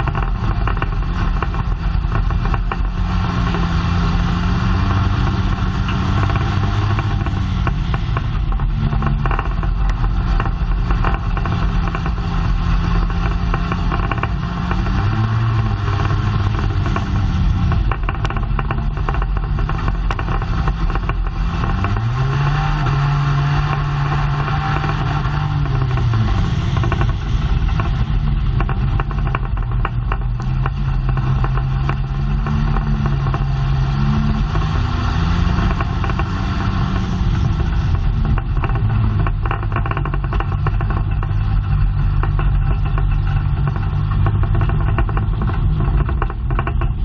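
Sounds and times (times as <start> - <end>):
race car engine running hard: 0.0 - 47.0.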